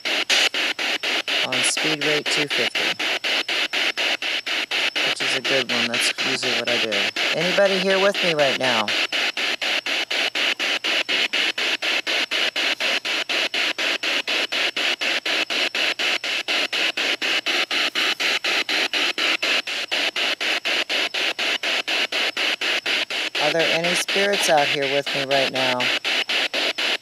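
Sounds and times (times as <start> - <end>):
choppy radio static hiss: 0.0 - 27.0.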